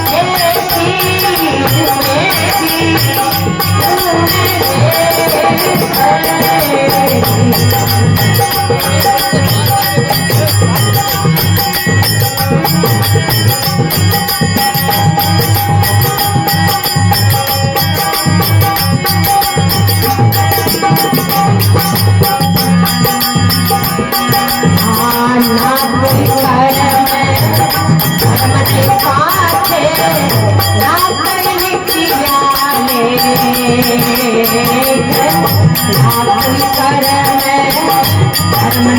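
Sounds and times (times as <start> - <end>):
jingling percussion: 0.0 - 38.9
steady drum beat: 0.0 - 38.9.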